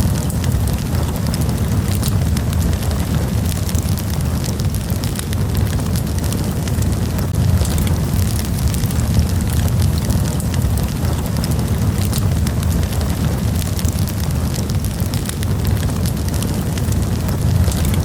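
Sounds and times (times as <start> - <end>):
campfire burning: 0.0 - 18.0
fire crackling and popping: 0.0 - 18.0.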